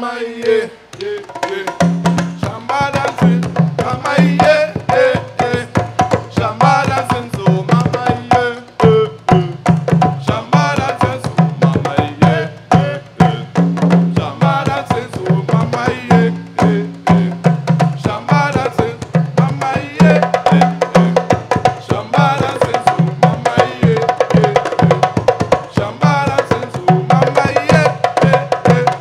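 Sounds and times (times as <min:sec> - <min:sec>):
person singing: 0:00.0 - 0:29.0
djembe drums playing: 0:00.4 - 0:29.0.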